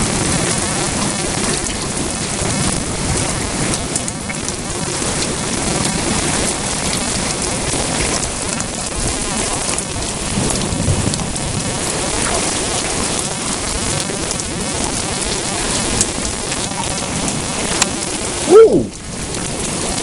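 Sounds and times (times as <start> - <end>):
heavy rain pouring: 0.0 - 20.0
thunder rumbling: 0.0 - 20.0.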